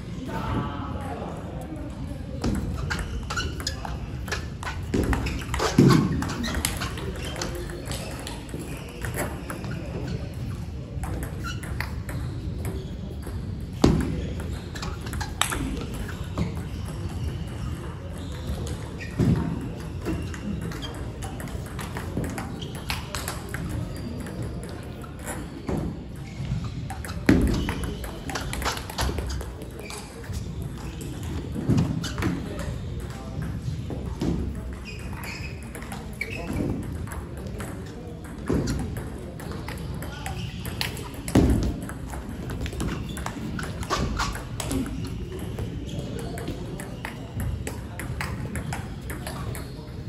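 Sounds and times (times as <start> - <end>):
faint table tennis play: 0.2 - 50.0.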